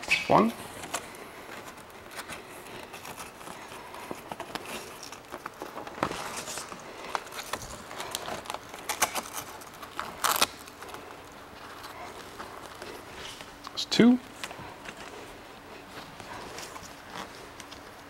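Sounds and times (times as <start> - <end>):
fabric rustling and scraping: 0.4 - 13.6, 14.3 - 18.0.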